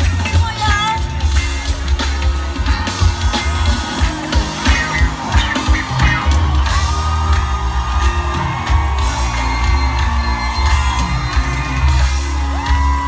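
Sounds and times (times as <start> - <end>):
crowd whooping and yelling: 0.0 - 13.0
live concert music with bass: 0.0 - 13.0.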